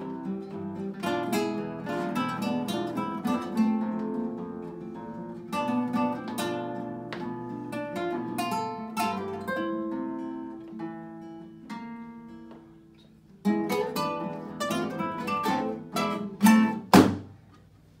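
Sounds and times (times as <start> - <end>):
classical guitars playing: 0.0 - 17.2.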